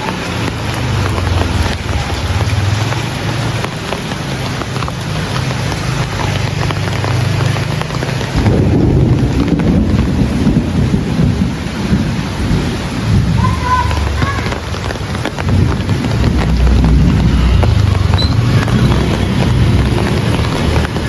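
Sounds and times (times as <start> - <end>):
heavy rain falling: 0.0 - 21.0
thunder rumbling: 0.1 - 4.6, 8.2 - 21.0.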